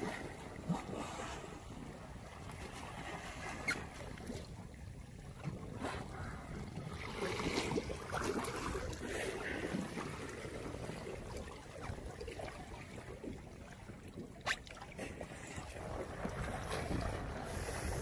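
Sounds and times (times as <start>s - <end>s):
small waves lapping: 0.0s - 18.0s.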